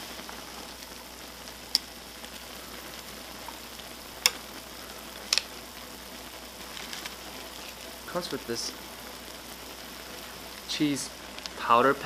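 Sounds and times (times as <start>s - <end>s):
water sizzling in metal pot: 0.0s - 12.0s.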